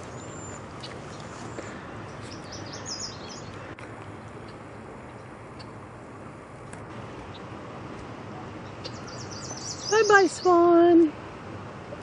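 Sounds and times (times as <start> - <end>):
outdoor background hiss: 0.0 - 12.0
songbirds chirping: 0.0 - 12.0.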